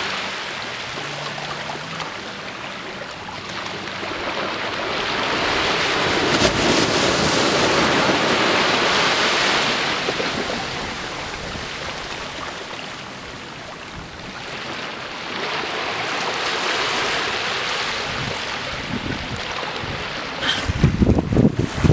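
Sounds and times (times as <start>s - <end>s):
small waves breaking on beach: 0.0s - 21.9s.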